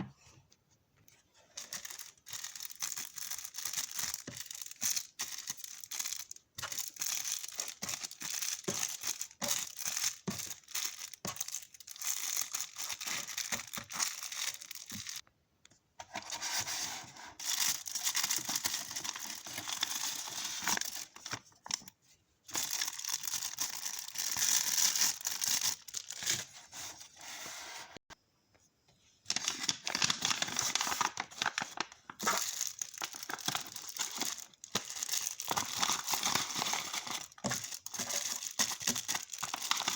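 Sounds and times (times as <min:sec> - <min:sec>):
plastic packaging crinkling and tearing: 0:01.6 - 0:15.2, 0:17.4 - 0:21.9, 0:22.5 - 0:26.5, 0:29.3 - 0:39.9.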